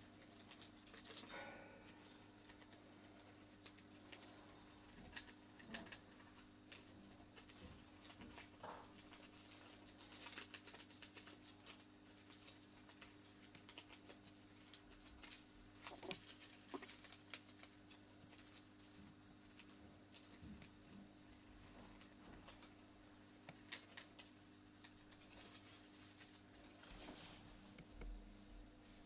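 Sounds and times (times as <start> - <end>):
gerbils scrabbling and rustling: 0.0 - 28.0.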